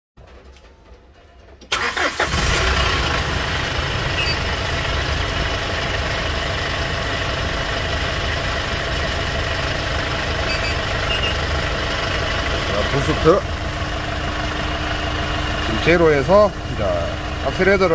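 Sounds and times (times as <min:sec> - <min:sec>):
diesel engine cranking and starting: 0:00.2 - 0:17.9
diesel engine idling: 0:00.2 - 0:17.9.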